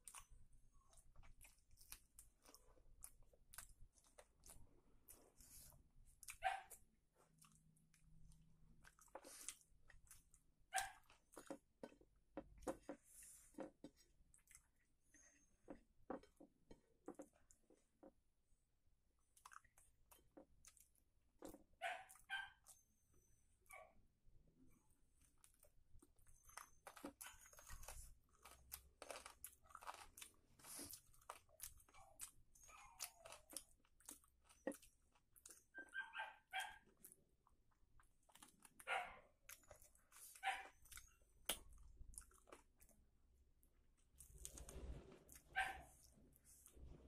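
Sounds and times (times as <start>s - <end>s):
chewing: 0.0s - 18.2s, 19.2s - 22.9s, 25.2s - 43.1s.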